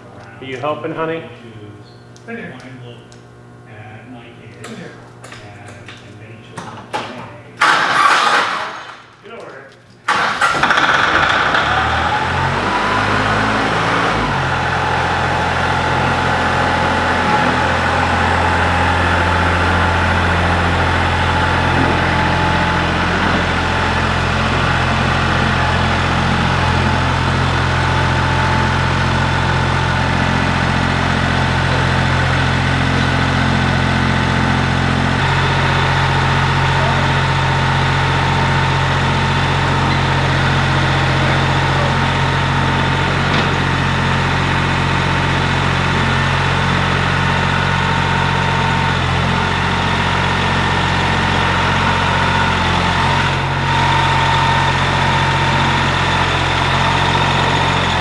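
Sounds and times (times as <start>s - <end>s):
tractor diesel engine starting: 7.6s - 9.0s, 10.1s - 58.0s.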